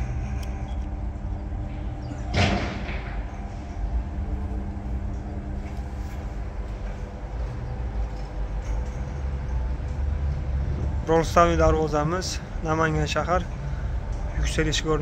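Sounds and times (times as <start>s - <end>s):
roller shutter motor humming: 0.0s - 15.0s.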